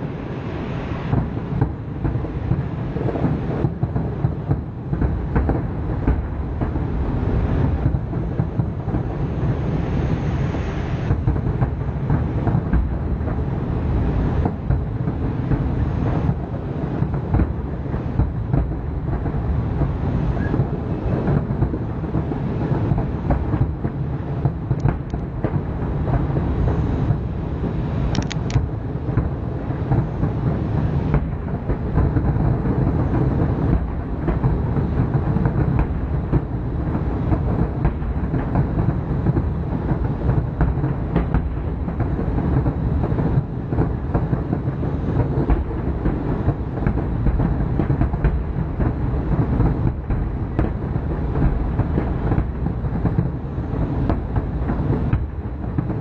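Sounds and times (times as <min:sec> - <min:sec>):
fireworks bangs rumbling: 0:00.0 - 0:56.0
sharp firework cracks: 0:00.0 - 0:56.0.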